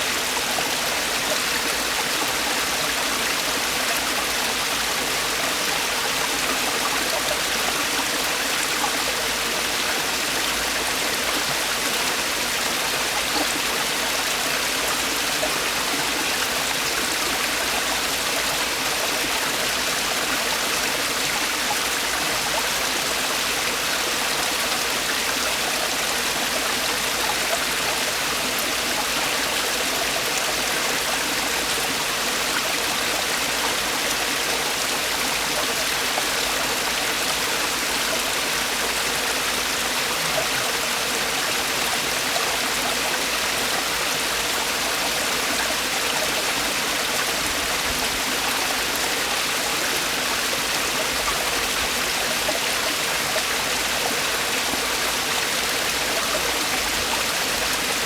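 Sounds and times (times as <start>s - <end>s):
stream water splashing over rocks: 0.0s - 58.0s.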